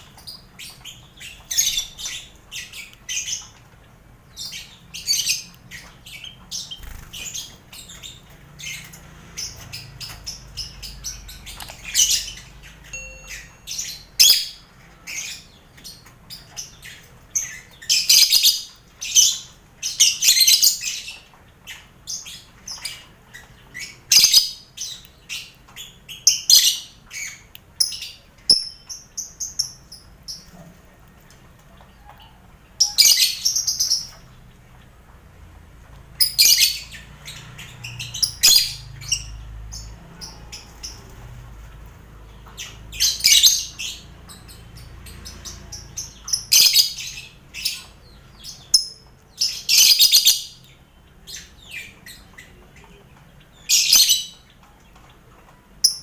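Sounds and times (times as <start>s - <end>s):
birds chirping and squawking: 0.0s - 56.0s.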